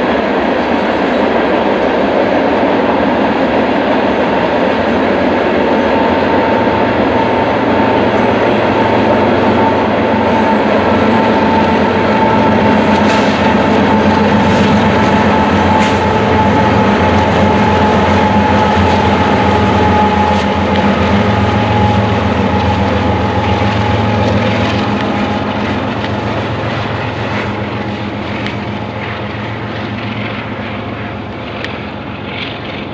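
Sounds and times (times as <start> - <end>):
diesel locomotives passing: 0.0 - 32.9.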